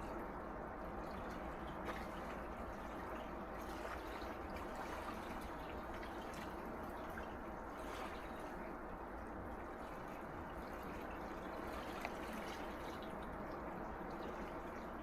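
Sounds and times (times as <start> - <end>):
small waves lapping at shore: 0.0 - 15.0.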